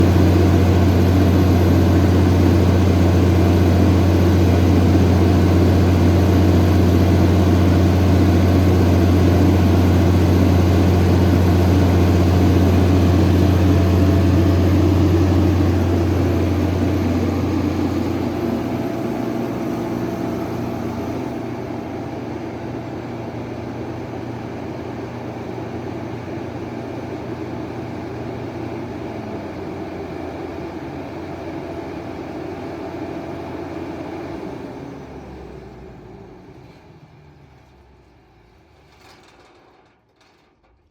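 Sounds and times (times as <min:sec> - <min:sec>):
diesel generator humming: 0:00.0 - 0:37.0.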